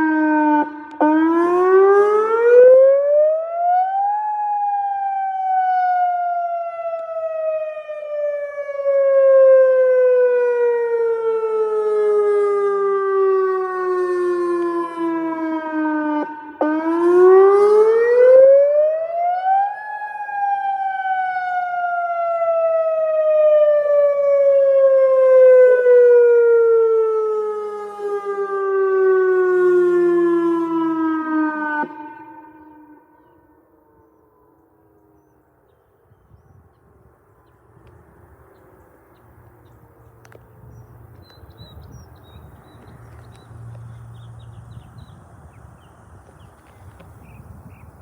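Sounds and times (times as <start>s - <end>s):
tornado warning siren wailing: 0.0s - 35.6s, 37.0s - 48.0s.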